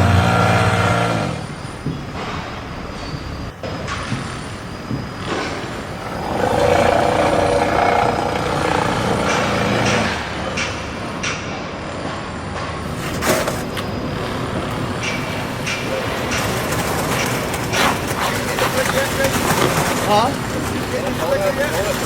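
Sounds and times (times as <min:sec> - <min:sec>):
heavy machinery running: 0:00.0 - 0:22.0.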